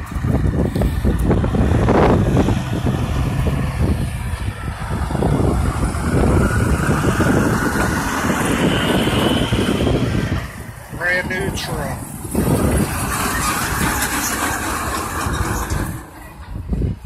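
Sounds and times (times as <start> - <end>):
rising whine: 0.0 - 17.0
truck diesel engine rumble: 0.0 - 17.0.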